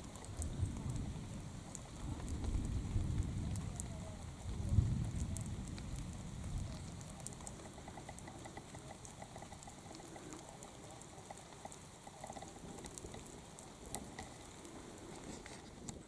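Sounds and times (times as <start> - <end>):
light rain: 0.0 - 16.0
water dripping from trees: 0.0 - 16.0.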